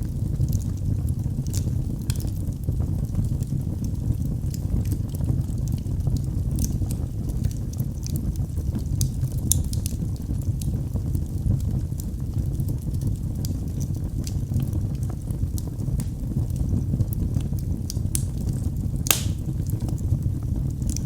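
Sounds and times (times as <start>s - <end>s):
fireplace fire crackling: 0.0s - 21.0s.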